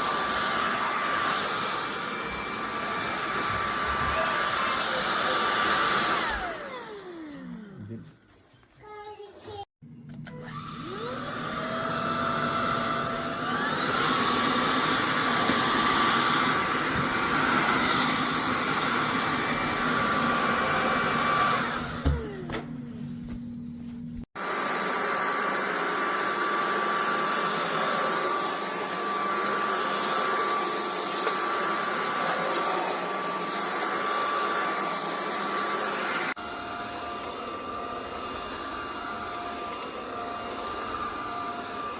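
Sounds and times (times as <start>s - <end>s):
vacuum motor whining: 0.0s - 8.1s, 10.1s - 23.2s, 24.4s - 41.9s.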